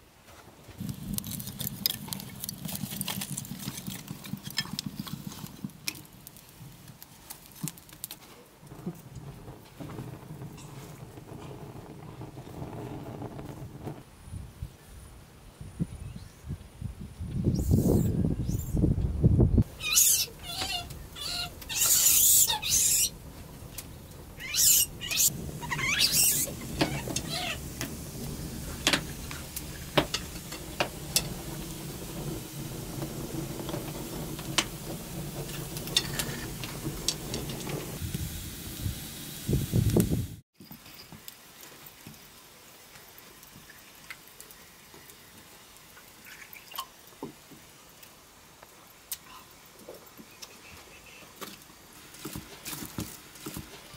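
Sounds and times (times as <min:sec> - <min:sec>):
fire crackling and popping: 0:00.6 - 0:14.1, 0:19.6 - 0:40.4, 0:41.2 - 0:50.6, 0:51.3 - 0:53.9
wood fire burning: 0:00.6 - 0:14.3, 0:19.6 - 0:40.4, 0:41.2 - 0:50.6, 0:51.3 - 0:53.9.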